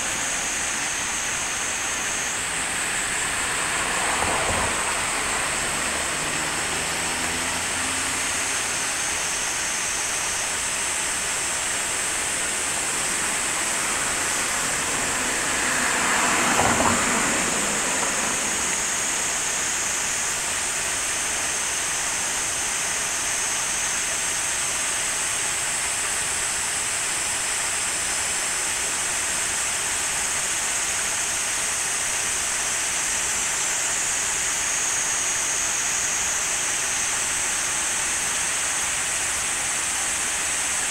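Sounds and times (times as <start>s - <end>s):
water rushing over a weir: 0.0s - 40.9s.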